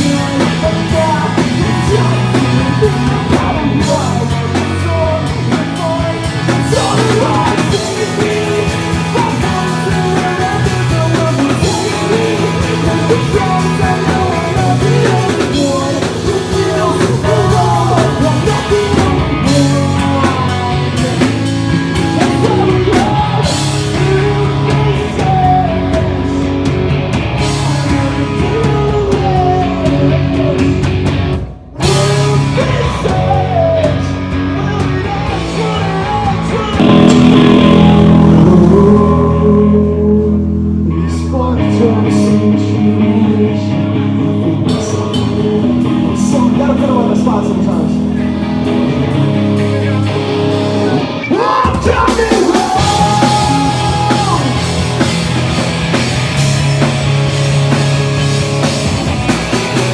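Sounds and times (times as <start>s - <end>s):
person singing: 0.0s - 26.7s, 27.4s - 58.8s
drum kit: 0.0s - 40.8s, 44.6s - 59.9s
bass guitar: 0.0s - 59.9s
electric guitars: 0.0s - 59.9s.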